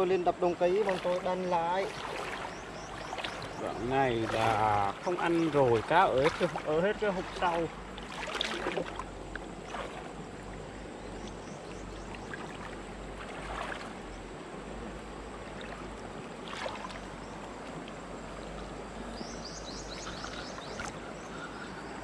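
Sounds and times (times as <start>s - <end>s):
river water sloshing: 0.0s - 22.0s
water splashes: 0.0s - 22.0s.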